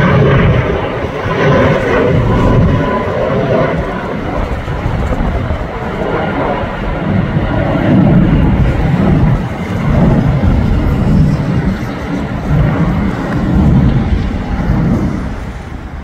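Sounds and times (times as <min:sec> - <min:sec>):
airliner jet rumble overhead: 0:00.0 - 0:16.0
wind buffeting microphone: 0:00.0 - 0:16.0.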